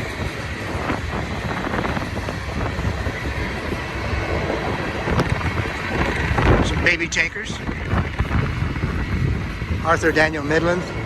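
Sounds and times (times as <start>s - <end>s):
freight train cars rolling past: 0.0s - 11.0s.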